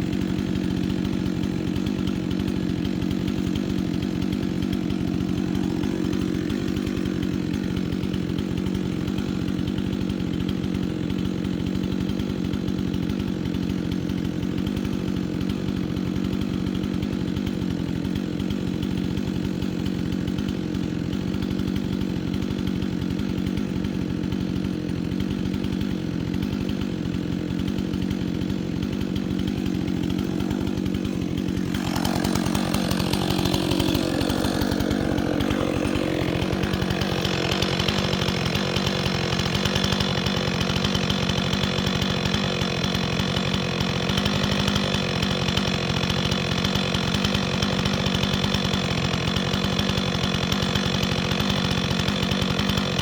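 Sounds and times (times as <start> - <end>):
chainsaw running: 0.0 - 53.0.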